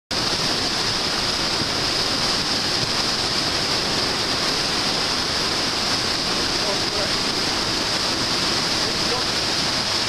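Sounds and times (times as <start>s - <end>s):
river rushing over boulders: 0.1s - 10.0s.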